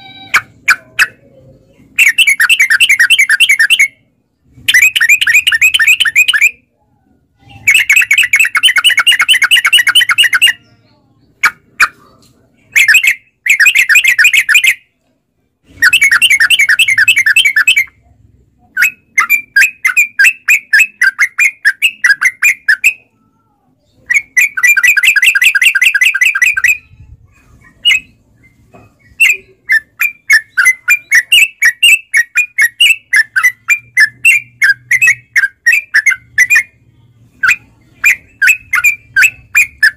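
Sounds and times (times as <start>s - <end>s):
bird chattering song: 0.1s - 15.0s, 15.7s - 39.9s.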